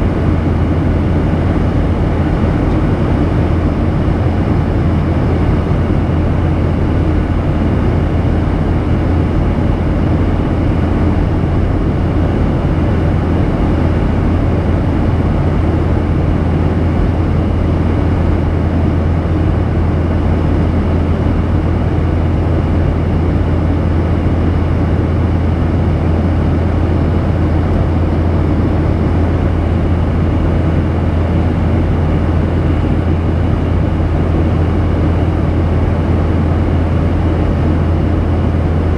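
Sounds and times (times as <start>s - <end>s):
airplane cabin engine hum: 0.0s - 38.9s.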